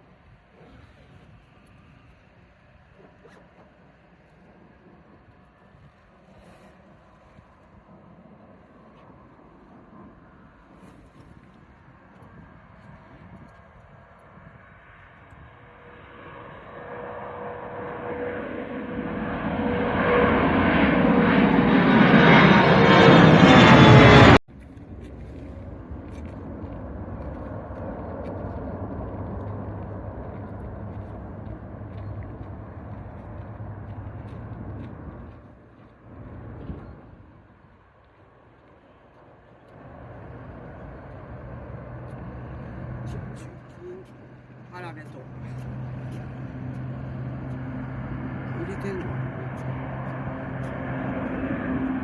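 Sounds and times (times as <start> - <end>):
airliner engines at takeoff: 0.0 - 52.0.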